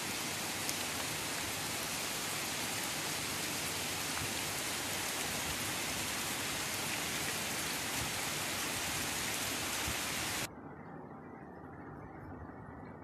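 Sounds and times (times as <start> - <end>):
rain falling: 0.0 - 10.5.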